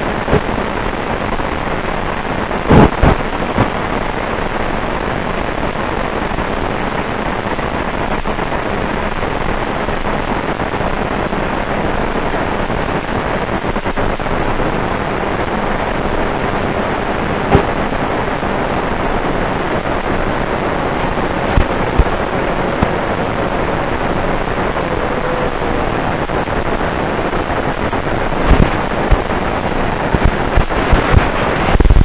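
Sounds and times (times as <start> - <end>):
static hiss: 0.0 - 32.0.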